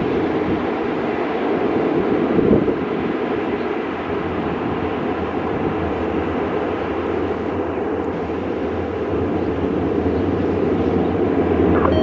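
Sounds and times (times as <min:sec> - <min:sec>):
turboprop engines droning roar: 0:00.0 - 0:12.0.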